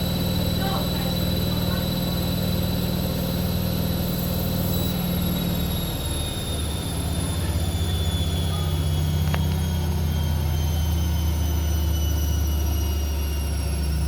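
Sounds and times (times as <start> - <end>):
high motor whine: 0.0 - 14.0
washing machine spin cycle: 0.0 - 14.0.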